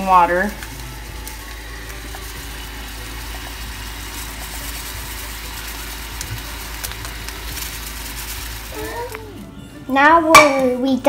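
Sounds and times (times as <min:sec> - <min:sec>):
gas stove burner rushing: 0:00.0 - 0:08.9
water boiling in a saucepan: 0:00.0 - 0:09.4.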